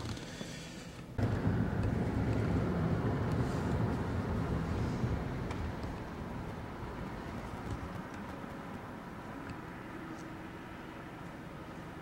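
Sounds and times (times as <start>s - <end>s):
car cabin road rumble: 1.0s - 12.0s.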